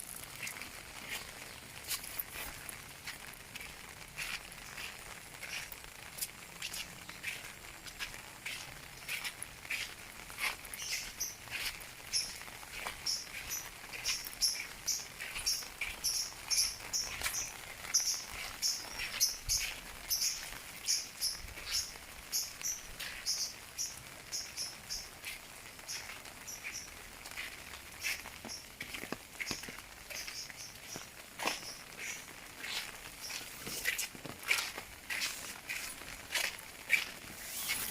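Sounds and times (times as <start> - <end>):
light rain hiss: 0.0 - 37.9.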